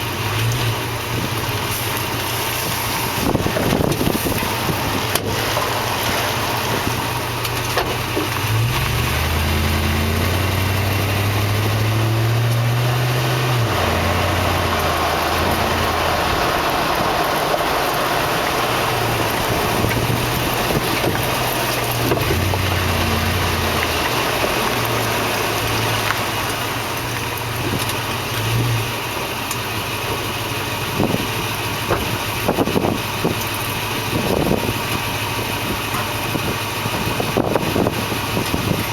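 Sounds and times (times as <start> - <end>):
road noise: 0.0 - 38.9
truck engine running: 0.0 - 38.9.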